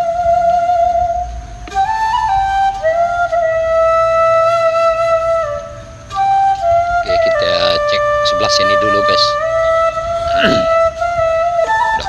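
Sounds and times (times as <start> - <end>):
slow flute melody: 0.0 - 12.0.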